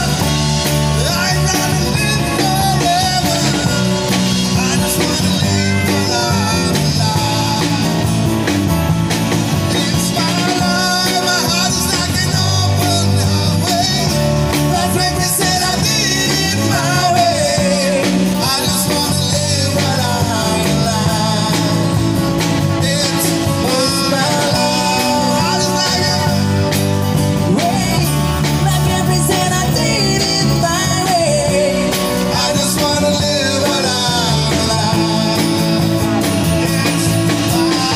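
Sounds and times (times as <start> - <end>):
acoustic guitars: 0.0 - 37.9
amplified singing: 0.0 - 37.9
drum kit: 0.0 - 37.9.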